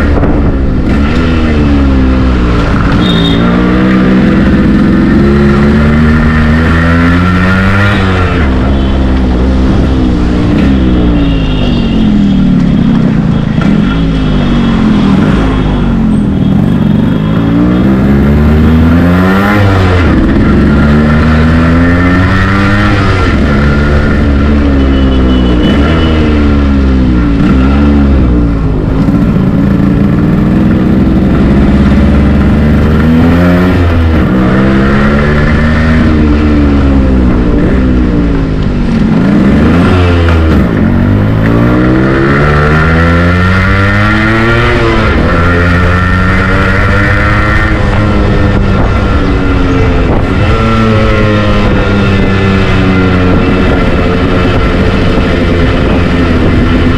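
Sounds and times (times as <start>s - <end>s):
two-stroke motorcycle engine revving: 0.0s - 56.9s.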